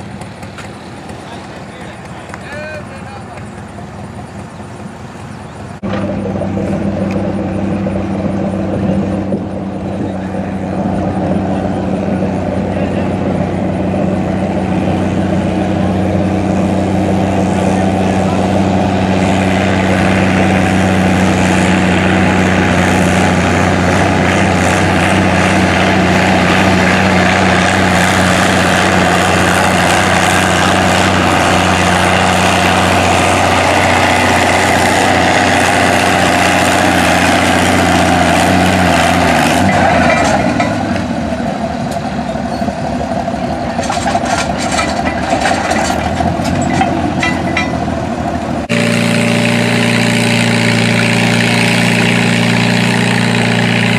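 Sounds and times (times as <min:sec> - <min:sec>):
tractor engine running hard: 0:00.0 - 0:53.9.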